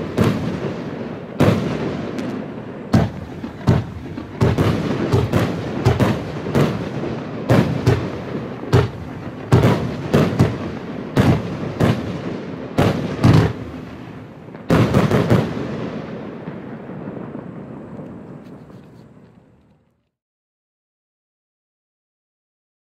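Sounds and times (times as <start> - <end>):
firework battery bangs: 0.0 - 19.6.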